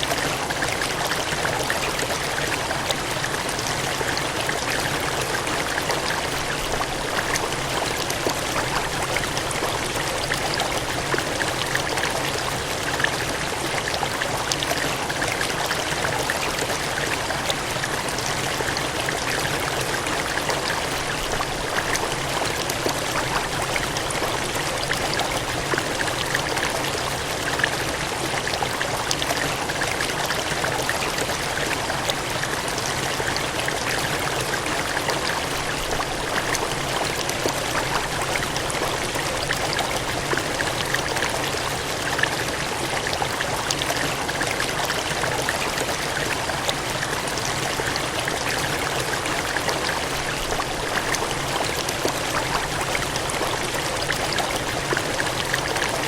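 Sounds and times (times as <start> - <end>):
water gushing and cascading: 0.0 - 56.0.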